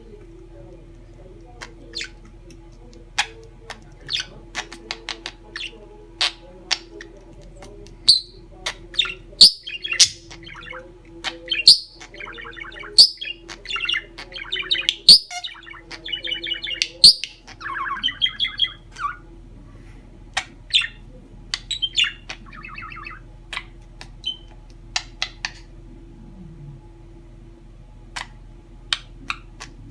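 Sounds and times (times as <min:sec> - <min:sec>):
budgerigar chattering: 0:01.5 - 0:19.2, 0:20.4 - 0:25.7, 0:28.2 - 0:29.9.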